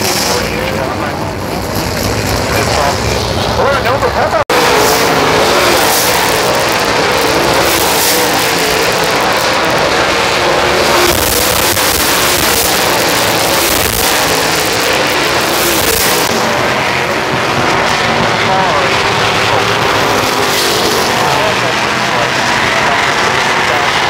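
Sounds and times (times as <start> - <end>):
race car engines running hard: 0.0 - 24.0.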